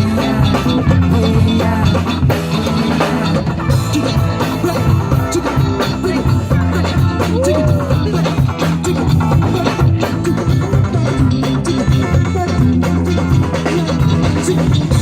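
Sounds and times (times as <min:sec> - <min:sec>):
band music: 0:00.0 - 0:15.0
drum kit beat: 0:00.0 - 0:15.0
stepping bass line: 0:00.0 - 0:15.0.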